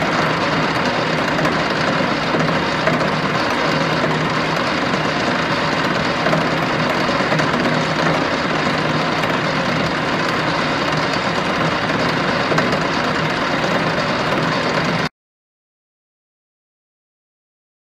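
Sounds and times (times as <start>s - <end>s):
lathe running with whir: 0.0s - 15.1s.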